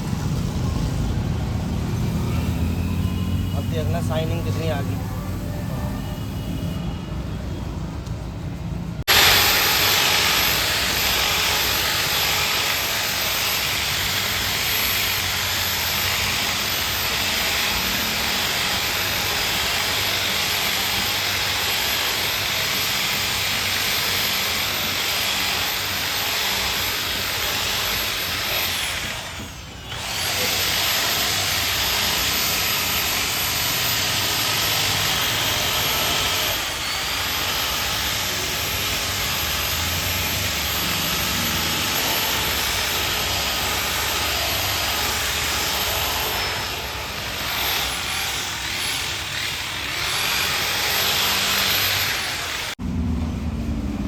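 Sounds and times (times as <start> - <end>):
polishing machine motor whine: 9.1 - 52.8.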